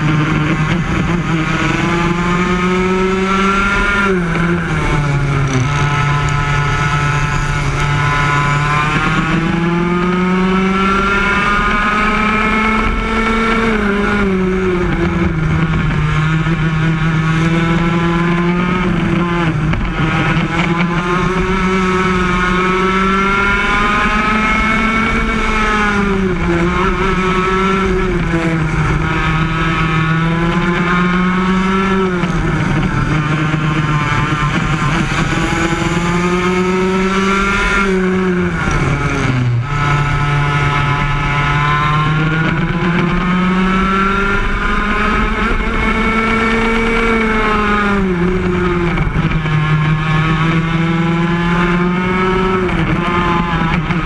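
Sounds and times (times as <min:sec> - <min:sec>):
kart engine running at racing speed: 0:00.0 - 0:54.0.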